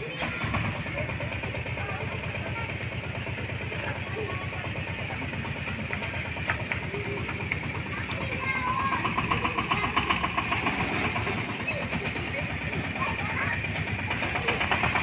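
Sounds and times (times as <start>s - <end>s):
engine idling: 0.0s - 15.0s
faint background voices: 0.0s - 15.0s.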